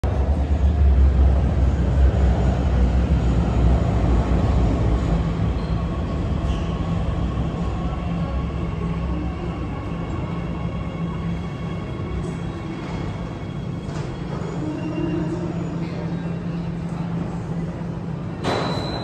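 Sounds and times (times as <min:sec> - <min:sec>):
metro train rumbling to a stop: 0:00.0 - 0:19.0.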